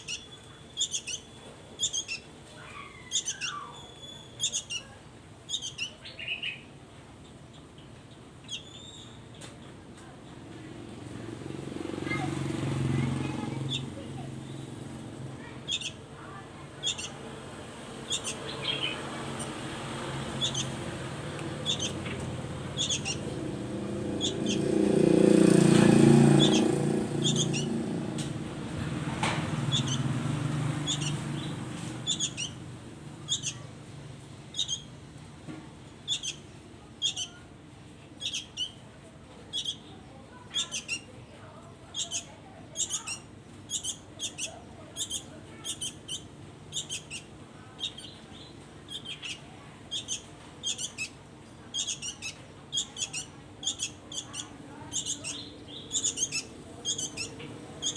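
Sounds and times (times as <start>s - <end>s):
songbird chirping: 0.0s - 10.1s, 11.0s - 35.0s, 36.0s - 37.4s, 38.1s - 38.8s, 39.4s - 57.9s.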